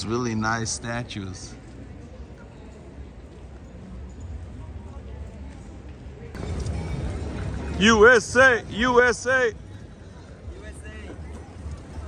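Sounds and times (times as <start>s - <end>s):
faint street noise: 0.0s - 12.0s.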